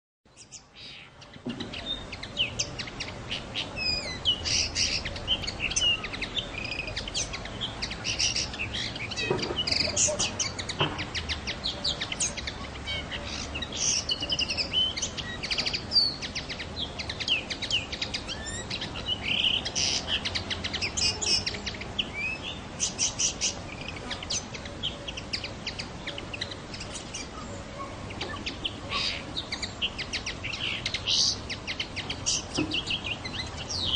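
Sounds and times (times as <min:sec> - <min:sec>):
bird twittering song: 0:00.3 - 0:33.9.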